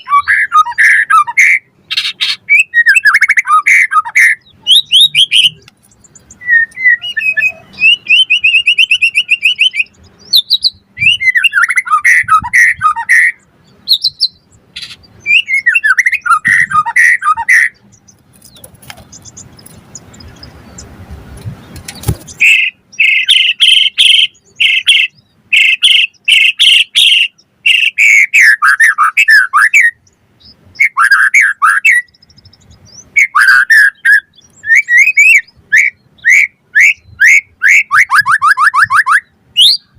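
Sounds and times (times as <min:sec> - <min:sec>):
bird singing whistled phrases: 0:00.0 - 0:17.8, 0:22.3 - 0:30.0, 0:30.8 - 0:39.9.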